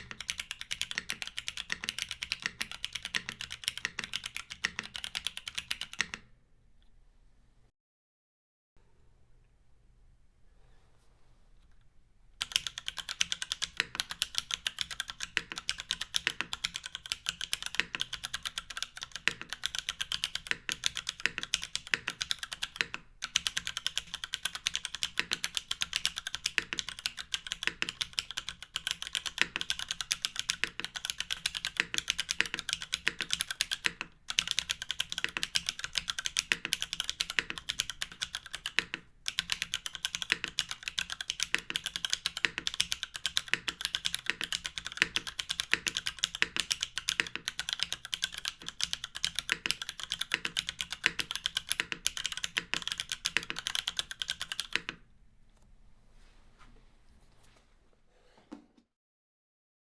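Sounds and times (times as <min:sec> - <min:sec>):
fast mechanical keyboard typing: 0:00.0 - 0:06.2, 0:12.4 - 0:55.0.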